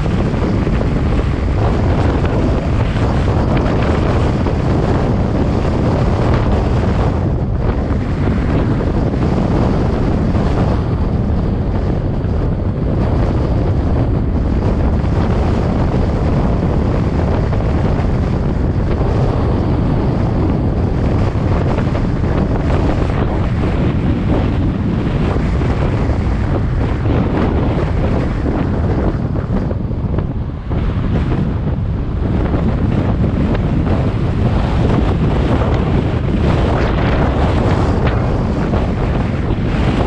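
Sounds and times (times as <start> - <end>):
road noise: 0.0 - 40.0
wind buffeting microphone: 0.0 - 40.0.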